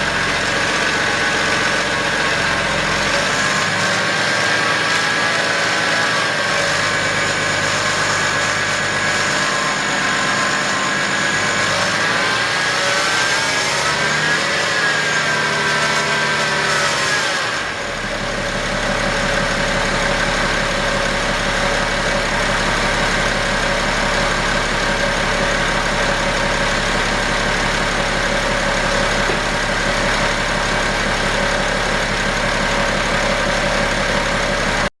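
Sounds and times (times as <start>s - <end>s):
diesel engine running: 0.0s - 34.9s
idler pulley whine: 0.0s - 34.9s.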